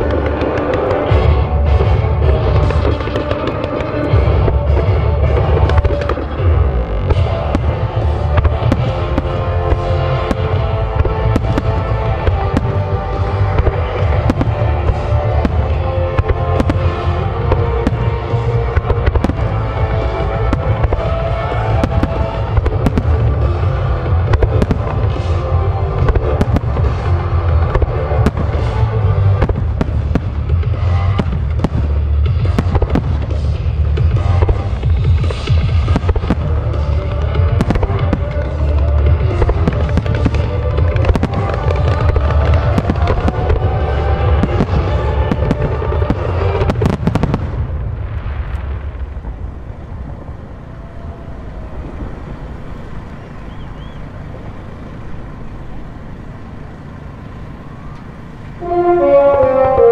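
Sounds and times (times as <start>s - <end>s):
fireworks pops and crackles: 0.0s - 50.4s
fireworks low booms: 0.0s - 56.4s
music playing: 0.0s - 59.9s.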